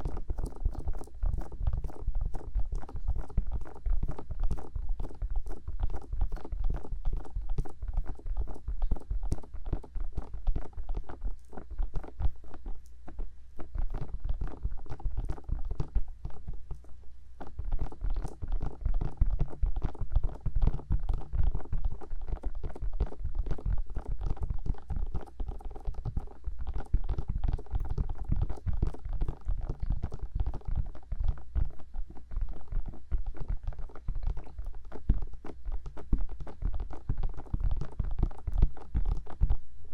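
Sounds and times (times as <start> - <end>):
fingertips tapping on microphone: 0.0 - 39.6.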